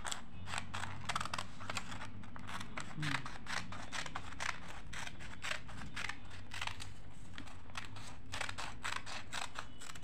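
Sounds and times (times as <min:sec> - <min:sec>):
scissors snipping paper: 0:00.0 - 0:10.0.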